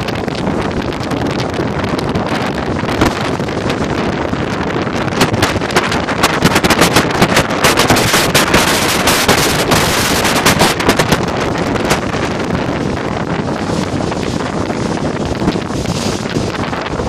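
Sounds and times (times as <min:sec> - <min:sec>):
boat engine running: 0:00.0 - 0:17.0
water rushing: 0:00.0 - 0:17.0
wind buffeting microphone: 0:00.0 - 0:17.0.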